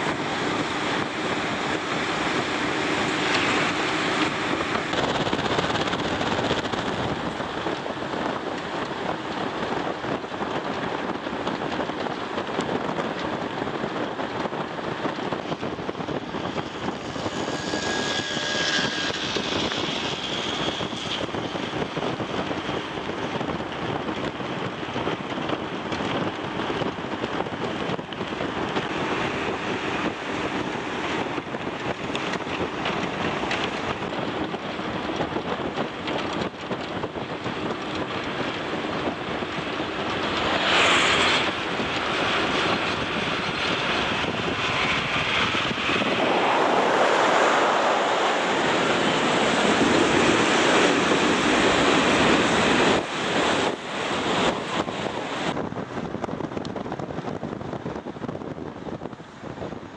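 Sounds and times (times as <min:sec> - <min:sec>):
vehicle road noise: 0:00.0 - 0:59.9.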